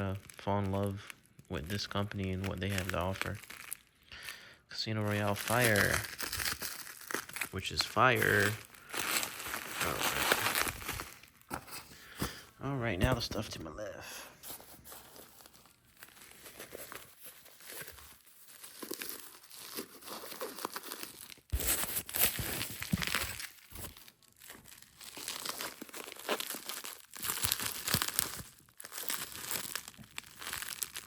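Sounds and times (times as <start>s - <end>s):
packaging crinkling and tearing: 0.0s - 12.4s, 14.4s - 31.0s.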